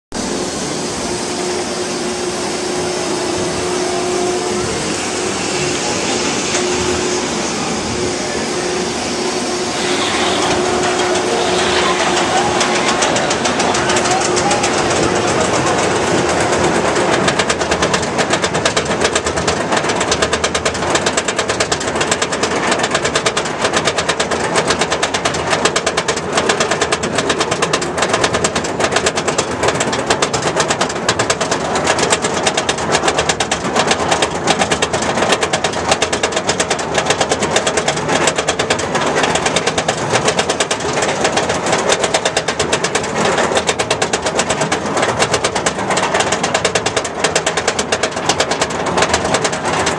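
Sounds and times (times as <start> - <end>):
lift chain clacking: 9.6 - 49.9.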